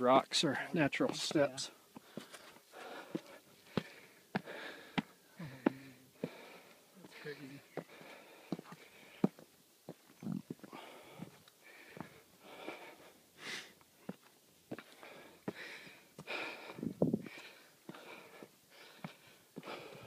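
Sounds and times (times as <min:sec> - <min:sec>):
heavy breathing: 0:01.9 - 0:09.4, 0:10.5 - 0:20.0.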